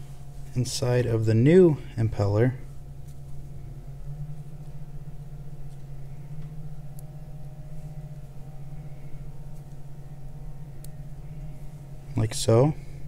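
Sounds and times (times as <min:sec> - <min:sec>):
faint higher steady tone: 0:00.0 - 0:13.0
steady low hum: 0:00.0 - 0:13.0.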